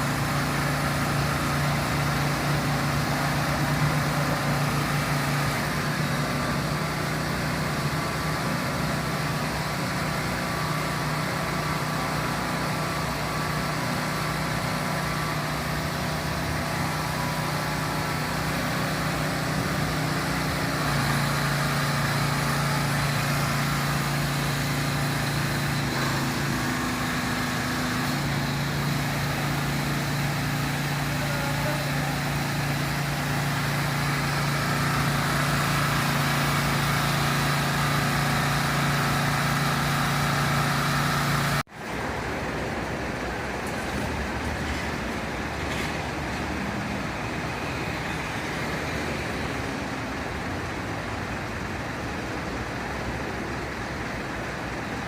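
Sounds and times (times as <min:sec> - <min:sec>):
outdoor background noise: 0:00.0 - 0:55.0
vehicle engine idling: 0:00.0 - 0:55.0.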